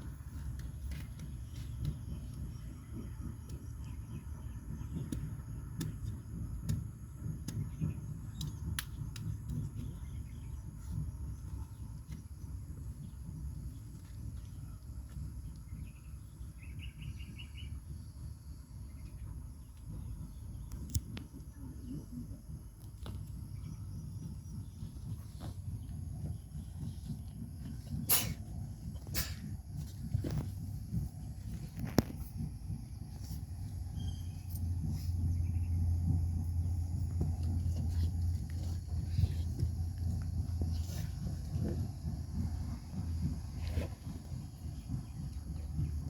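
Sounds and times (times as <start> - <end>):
low rumble: 0.0 - 46.0.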